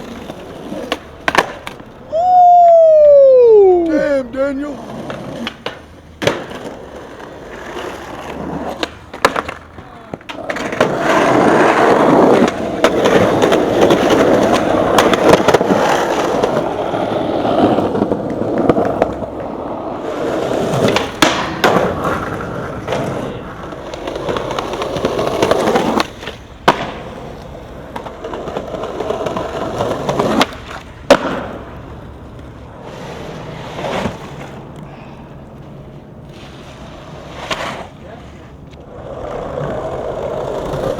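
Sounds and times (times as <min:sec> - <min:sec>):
skateboard clacks: 0:00.0 - 0:40.9
skateboard wheels rolling on pavement: 0:00.0 - 0:40.9.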